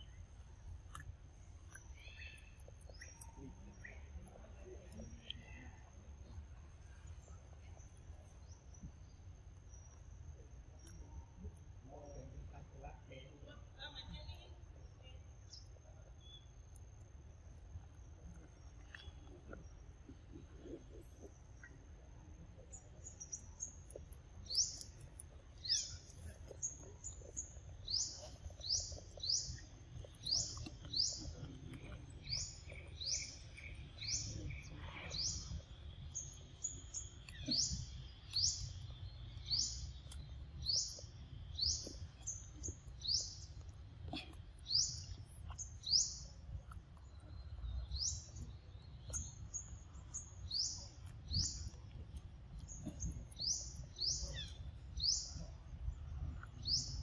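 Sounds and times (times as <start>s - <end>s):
bird chirping: 0.0s - 16.8s, 18.3s - 57.0s.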